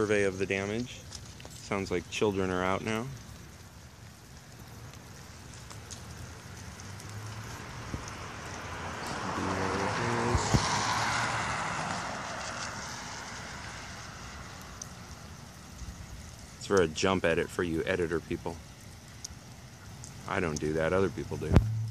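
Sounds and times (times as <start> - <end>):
car tyres hissing on wet street: 0.0 - 21.9.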